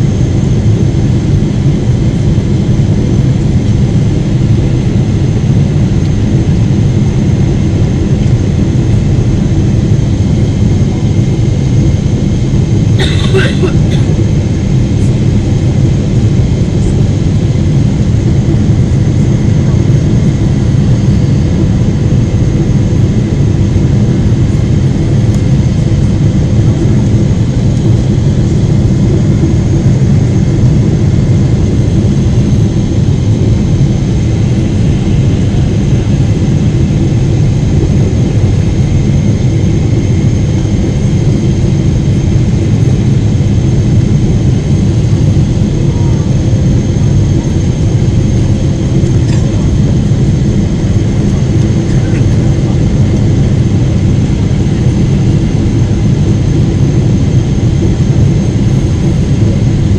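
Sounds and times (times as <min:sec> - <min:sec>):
jet engine and airflow roar: 0:00.0 - 0:59.9.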